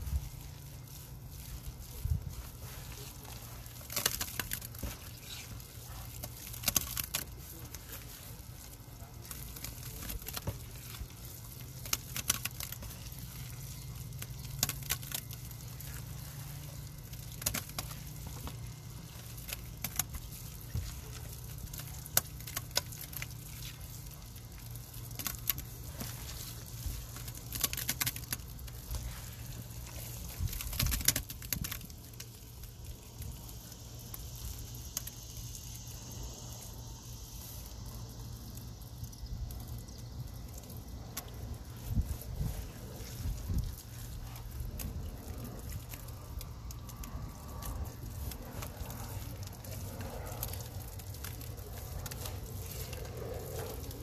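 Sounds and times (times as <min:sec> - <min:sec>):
hand squelching wet paste: 0:00.0 - 0:54.0
steady low hum: 0:00.0 - 0:54.0.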